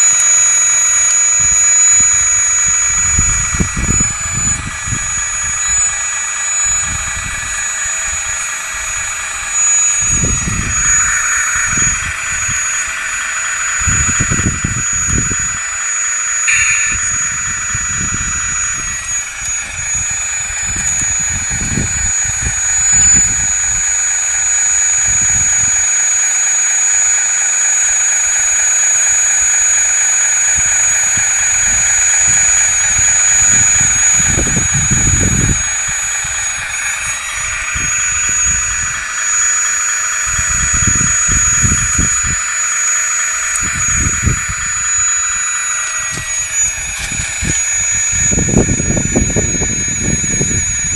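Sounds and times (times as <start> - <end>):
hydraulic pump whine: 0.0 - 50.9.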